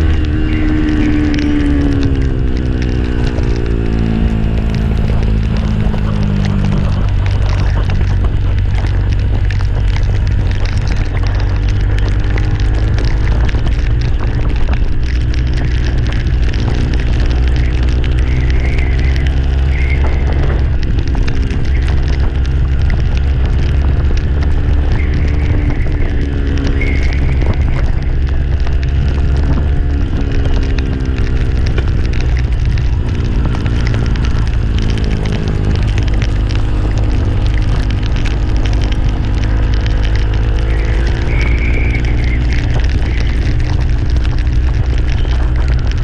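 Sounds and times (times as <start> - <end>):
deep steady rumble: 0.0 - 46.0
vehicle engine running: 0.0 - 46.0.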